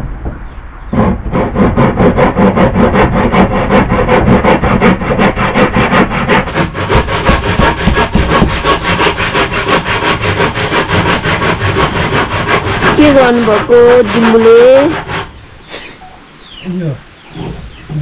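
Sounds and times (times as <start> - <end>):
hand saw cutting wood: 0.9 - 15.9.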